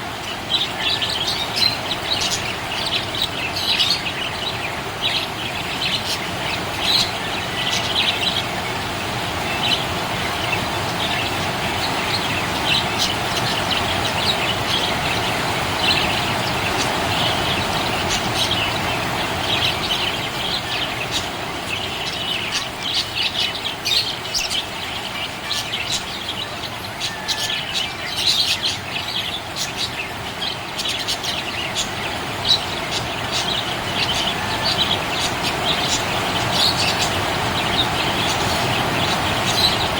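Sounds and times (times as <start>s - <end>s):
steady background hiss: 0.0s - 39.9s
budgerigars chirping: 0.2s - 39.9s.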